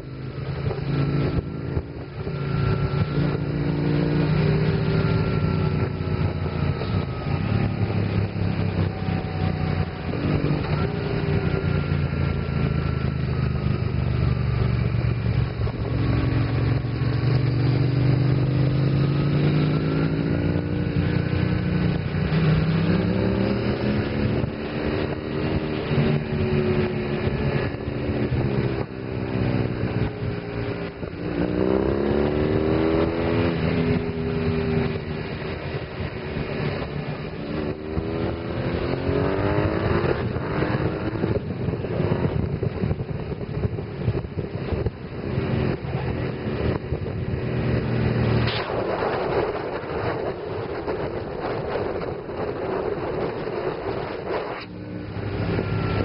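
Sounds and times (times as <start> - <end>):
motorcycle engine revving: 0.0 - 56.0
rushing wind noise: 0.0 - 56.0.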